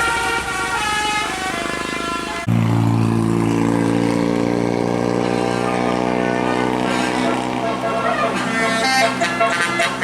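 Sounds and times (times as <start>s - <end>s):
heavy vehicle engine droning: 0.0s - 10.0s.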